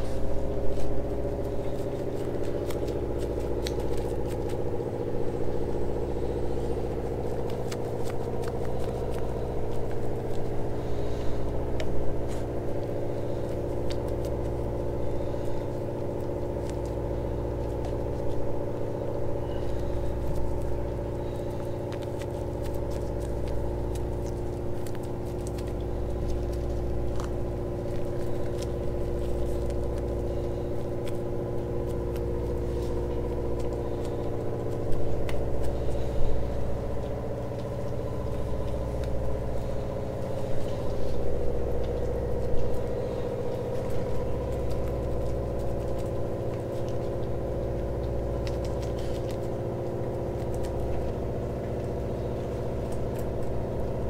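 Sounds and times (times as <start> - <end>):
brush dabbing wet resin: 0.0 - 54.0
motor droning: 0.0 - 54.0.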